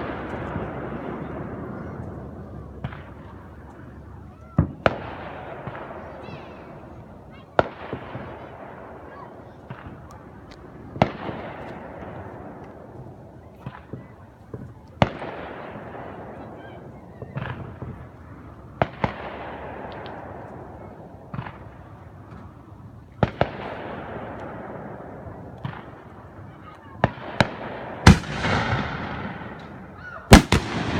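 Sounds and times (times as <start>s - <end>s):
fireworks bangs: 4.6s - 30.9s.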